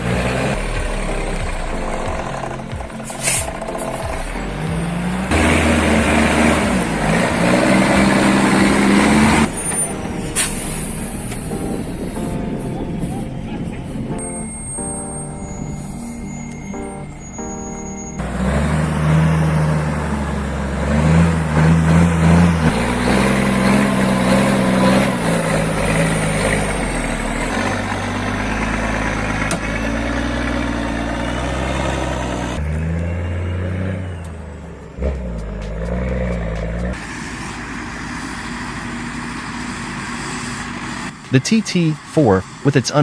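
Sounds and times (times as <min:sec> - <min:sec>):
heavy truck engines under load: 0:00.0 - 0:43.0.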